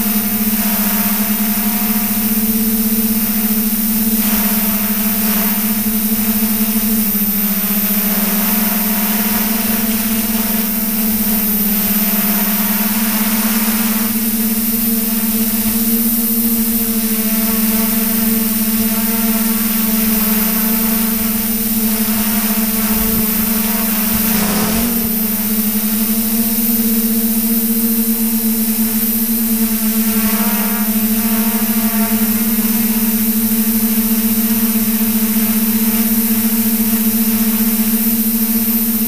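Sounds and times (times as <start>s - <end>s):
drone motors and propellers humming: 0.0s - 39.0s.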